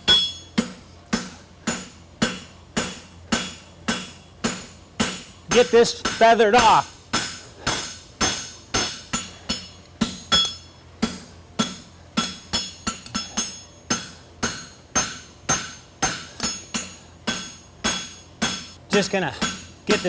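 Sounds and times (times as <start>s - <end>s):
hammer striking steel on anvil: 0.0s - 20.0s.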